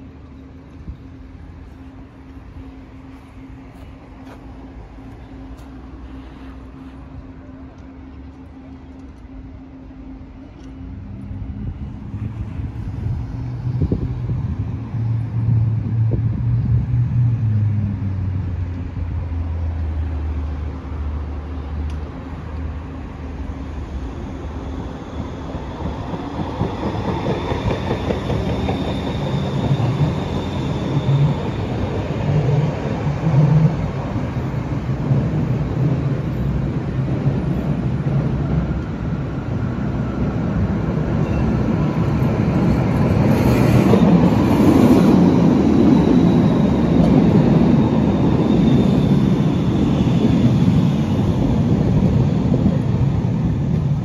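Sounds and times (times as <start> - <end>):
tram electric drive hum: 0.0 - 54.0
tram wheels rumbling on rails: 0.0 - 54.0.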